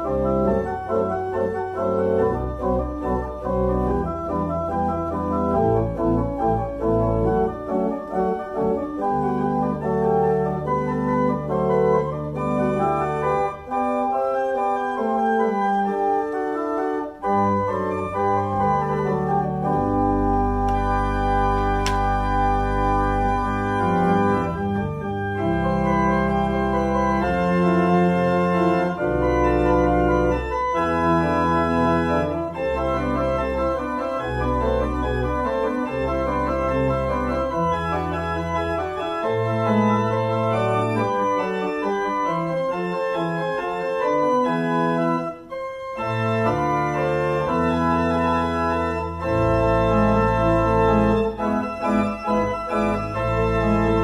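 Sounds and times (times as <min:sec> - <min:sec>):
pipe organ playing: 0:00.0 - 0:54.0.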